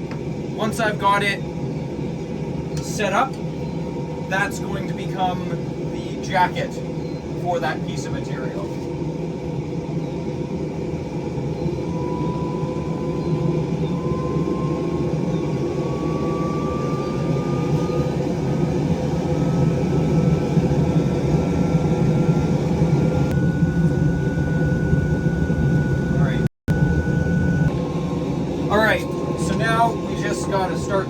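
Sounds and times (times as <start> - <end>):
thin rising whine: 0.0 - 31.0
forge low rush: 3.9 - 31.0.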